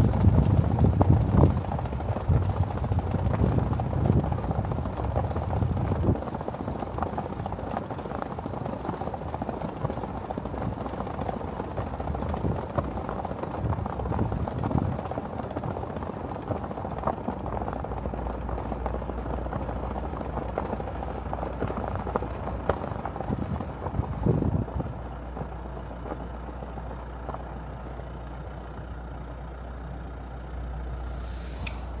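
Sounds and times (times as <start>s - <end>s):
engine knocks: 0.0s - 29.2s
car engine rumbling: 0.0s - 32.0s.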